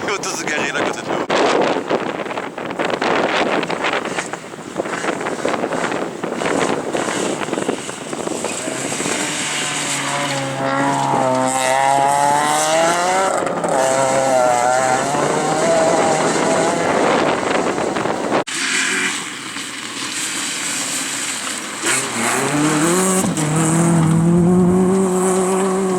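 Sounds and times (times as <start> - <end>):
wind noise on microphone: 0.0 - 18.5, 22.3 - 25.9
rally car engine passing: 2.7 - 25.9.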